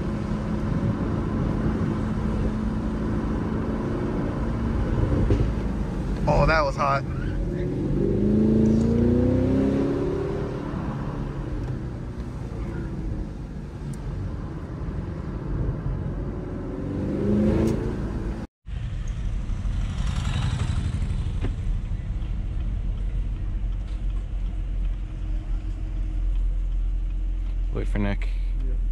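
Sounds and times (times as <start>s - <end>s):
car engine revving: 0.0s - 27.7s
road noise: 0.0s - 28.9s.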